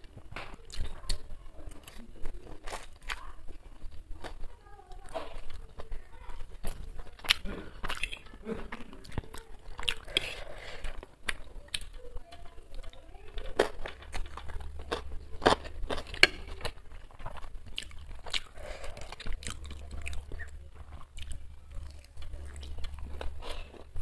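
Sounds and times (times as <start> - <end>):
person chewing and crunching: 0.0 - 24.0.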